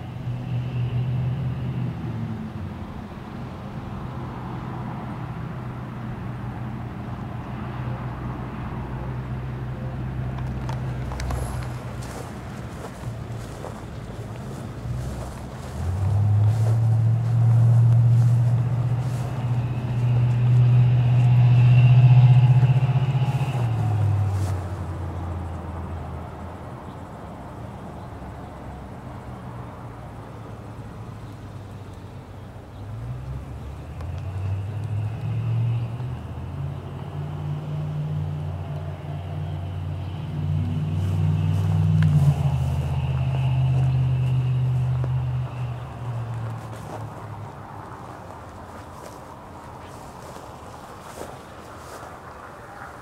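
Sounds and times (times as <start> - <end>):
passing vehicle engine hum: 0.0 - 53.0.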